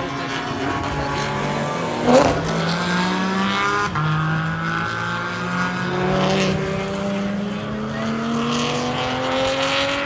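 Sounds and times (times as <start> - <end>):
car passing close by: 0.0 - 10.0
race car engine accelerating: 0.0 - 10.0.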